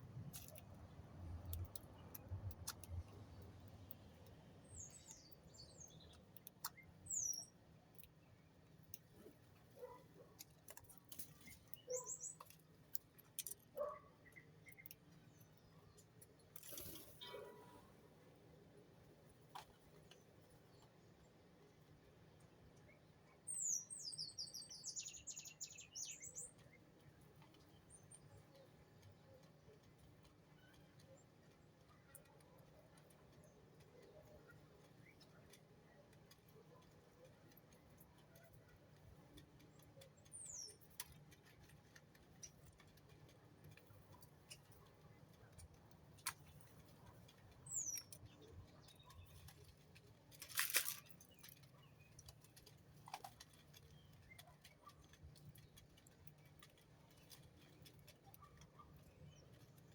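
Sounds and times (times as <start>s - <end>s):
patter of clicks: 0.1s - 18.0s, 18.6s - 21.1s, 21.7s - 59.9s
small birds chirping: 0.3s - 18.0s, 19.3s - 59.9s.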